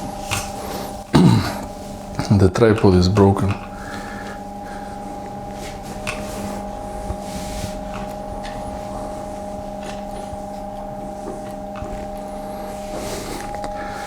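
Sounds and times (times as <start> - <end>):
second electrical tone: 0.0 - 14.0
steady electrical hum: 0.0 - 14.0.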